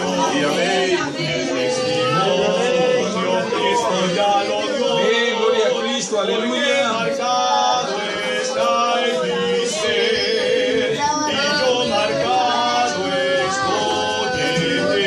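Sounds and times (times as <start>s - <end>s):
woman and man singing: 0.0s - 15.0s.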